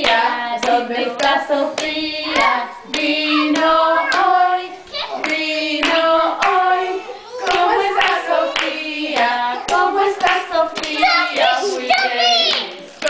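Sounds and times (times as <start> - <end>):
hands clapping along: 0.0 - 4.4, 5.2 - 6.7, 7.4 - 12.8
group singing children's song: 0.0 - 13.0.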